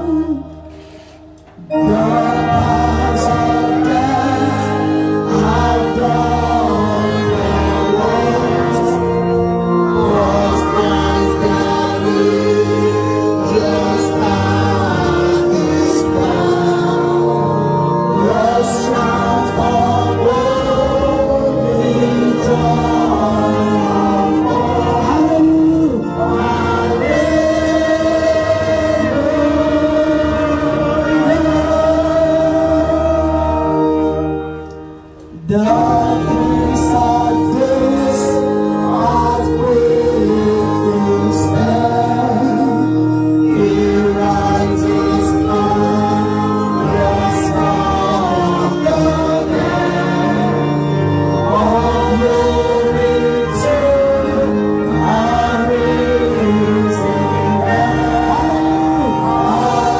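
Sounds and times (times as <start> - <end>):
choir and congregation singing: 0.0 - 59.9.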